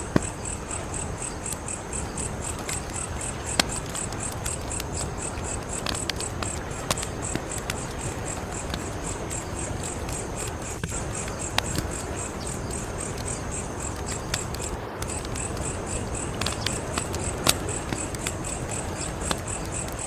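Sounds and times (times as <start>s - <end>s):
crickets chirping: 0.0s - 20.0s
wood fire crackling: 0.0s - 20.0s.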